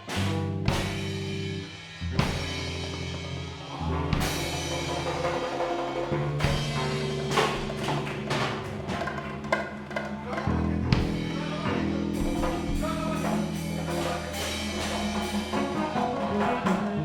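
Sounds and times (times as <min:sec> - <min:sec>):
drum kit with cymbal crashes: 0:00.0 - 0:17.0
low held notes: 0:00.0 - 0:17.0.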